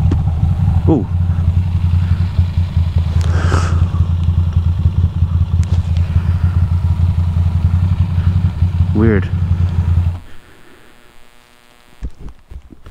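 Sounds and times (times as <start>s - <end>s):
motorcycle engine at low revs: 0.0s - 12.9s.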